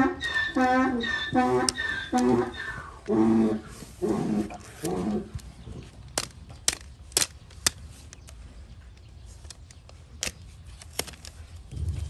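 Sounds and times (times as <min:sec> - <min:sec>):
hoof nippers cracking hoof: 0:00.1 - 0:03.2, 0:03.8 - 0:11.6.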